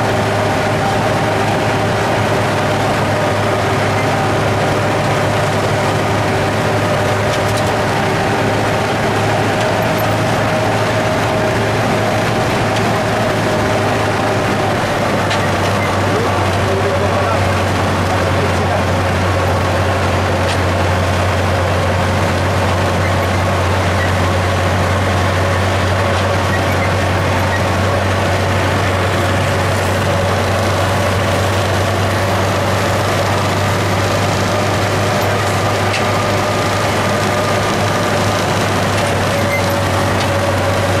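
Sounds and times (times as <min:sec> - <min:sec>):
steady whine: 0:00.0 - 0:41.0
tractor engine drone: 0:00.0 - 0:41.0.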